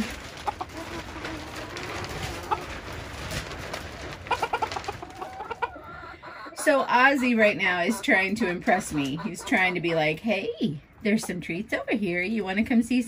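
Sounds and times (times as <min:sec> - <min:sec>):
chickens clucking: 0:00.0 - 0:12.6.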